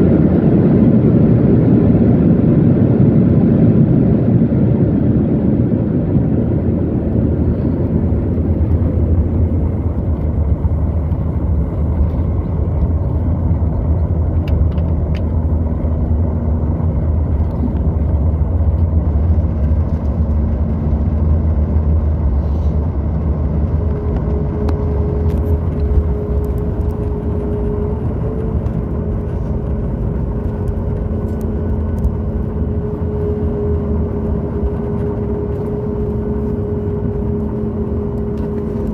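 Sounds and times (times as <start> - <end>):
deep rumble of aircraft cabin: 0.0 - 38.9
steady engine hum: 0.0 - 38.9.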